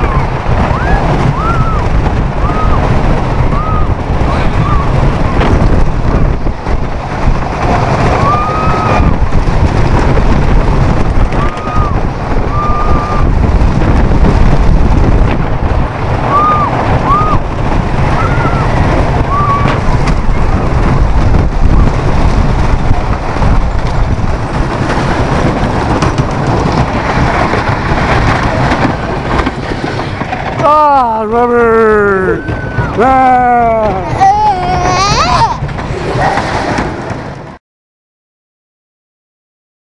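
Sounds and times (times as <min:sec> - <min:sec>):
roller coaster rumbling on track: 0:00.0 - 0:37.6
wind buffeting microphone: 0:00.0 - 0:37.6.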